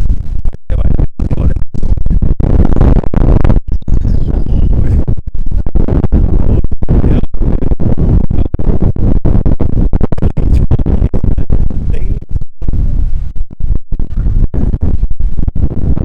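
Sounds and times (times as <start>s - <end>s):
rapid crackles: 0.0s - 16.0s
wind buffeting a microphone: 0.0s - 16.0s.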